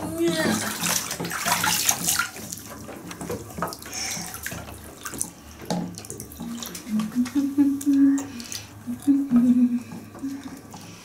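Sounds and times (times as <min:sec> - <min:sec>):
small splashes and drips: 0:00.0 - 0:11.0
water splashing into bathwater: 0:00.0 - 0:11.0.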